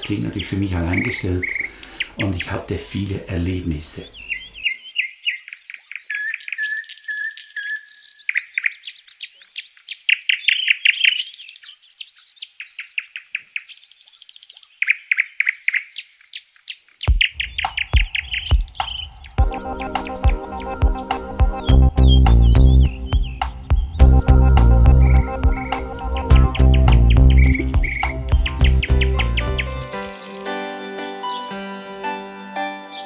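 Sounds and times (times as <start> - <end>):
songbirds chirping and trilling: 0.0 - 30.7.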